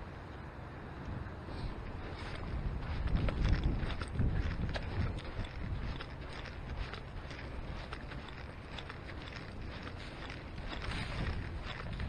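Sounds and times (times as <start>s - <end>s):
wind rumble on microphone: 0.0s - 12.0s
footsteps on dirt and sand: 1.5s - 12.0s.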